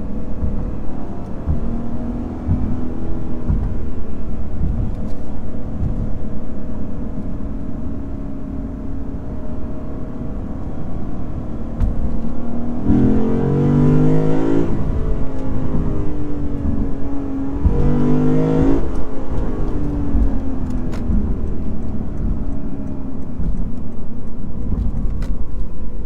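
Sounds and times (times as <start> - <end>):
car engine cruising and accelerating: 0.0 - 26.0
road and tyre noise: 0.0 - 26.0.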